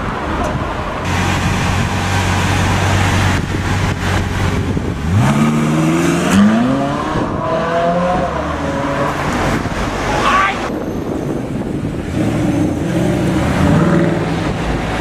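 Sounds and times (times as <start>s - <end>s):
car engine idling and accelerating: 0.0s - 10.1s, 10.7s - 15.0s.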